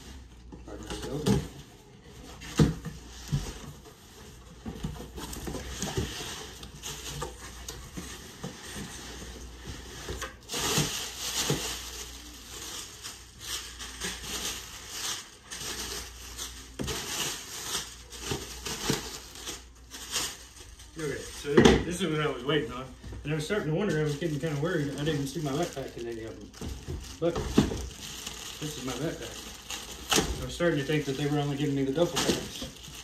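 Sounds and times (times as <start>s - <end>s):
plastic wrapping crinkling: 0.0s - 33.0s.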